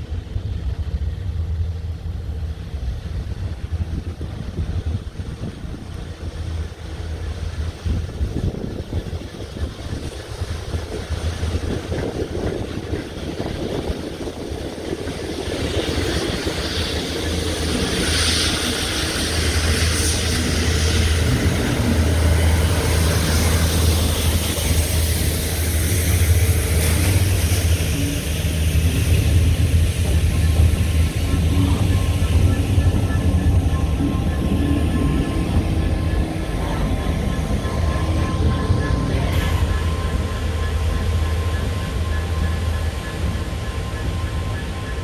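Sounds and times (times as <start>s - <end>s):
diesel locomotive engine drone: 0.0s - 45.0s.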